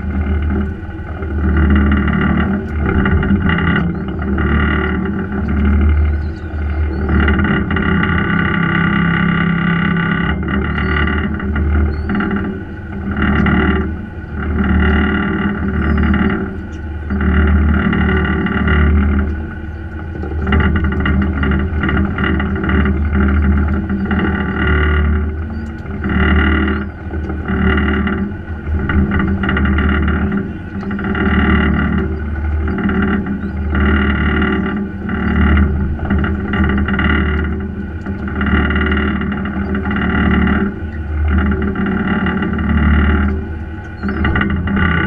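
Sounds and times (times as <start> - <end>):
muffled boat engine drone: 0.0 - 45.0.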